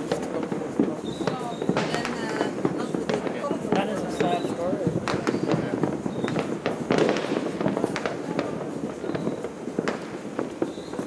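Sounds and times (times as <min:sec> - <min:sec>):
fireworks and firecrackers banging: 0:00.0 - 0:11.0.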